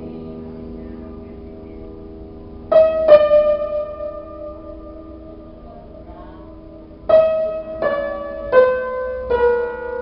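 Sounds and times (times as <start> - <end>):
piano chord ringing: 0.0 - 10.0
piano note: 0.0 - 10.0.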